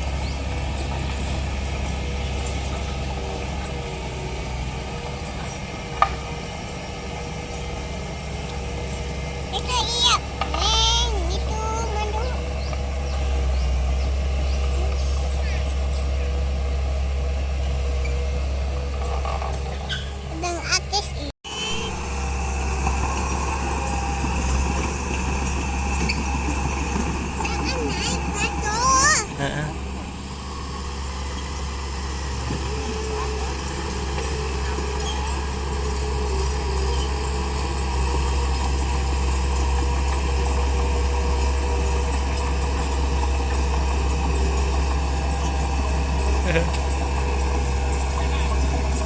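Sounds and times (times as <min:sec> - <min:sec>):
bulldozer diesel engine droning: 0:00.0 - 0:49.0.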